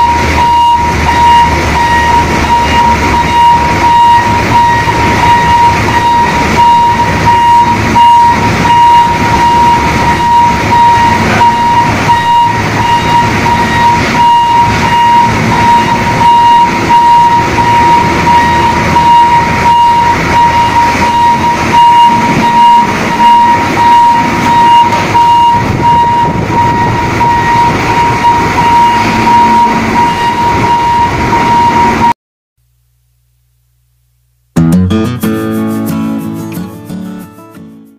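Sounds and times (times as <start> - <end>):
truck engine rumble: 0.0 - 32.2
high-pitched refrigeration whine: 0.0 - 34.6.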